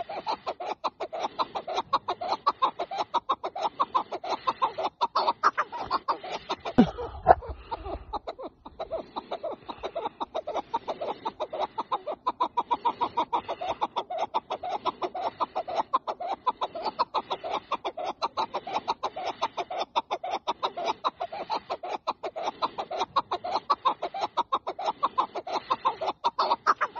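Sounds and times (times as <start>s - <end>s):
partridge clucking calls: 0.0s - 26.9s.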